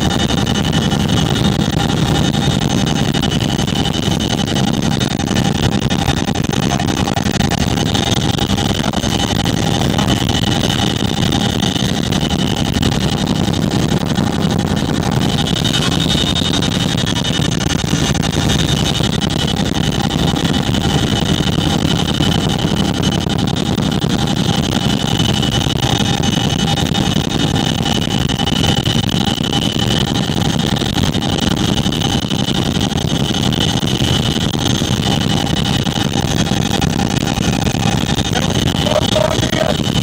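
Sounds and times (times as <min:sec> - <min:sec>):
helicopter cabin drone: 0:00.0 - 0:40.0.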